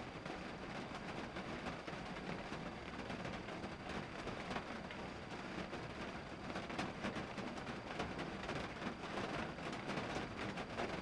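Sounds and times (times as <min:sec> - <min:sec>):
rain on a car roof: 0:00.0 - 0:11.0.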